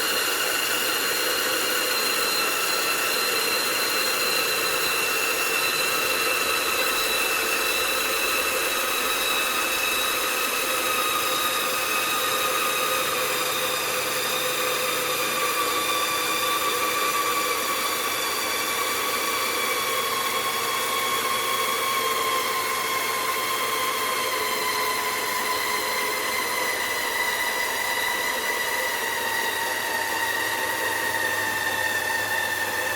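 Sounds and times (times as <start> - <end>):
electric motor whining: 0.0 - 32.9.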